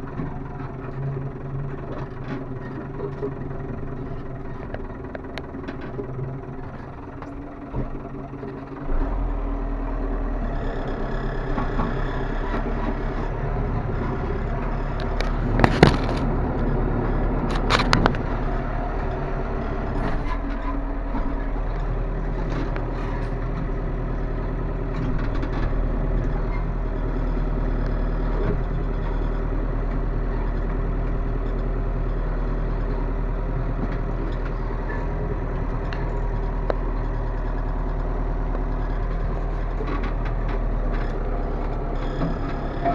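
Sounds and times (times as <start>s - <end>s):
rattles and clanks: 0.0s - 42.9s
tractor diesel engine running: 0.0s - 42.9s.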